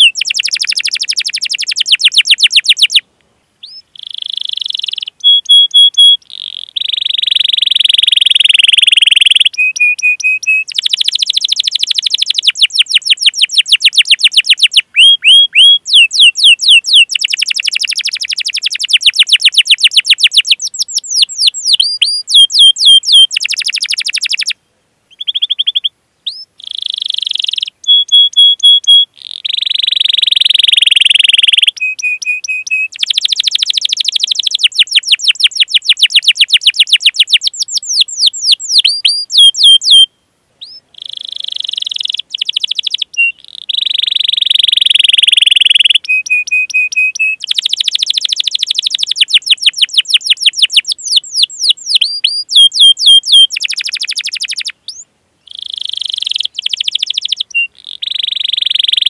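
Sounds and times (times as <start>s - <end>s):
canary singing: 0.0s - 3.0s, 3.6s - 59.0s.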